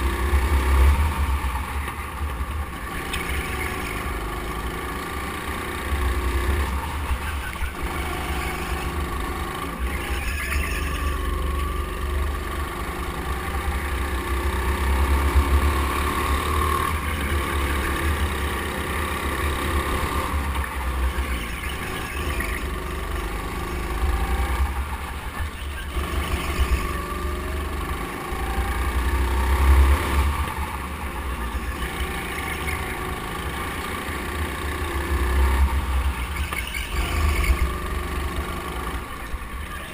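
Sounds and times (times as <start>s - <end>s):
go-kart motor running: 0.0s - 39.9s.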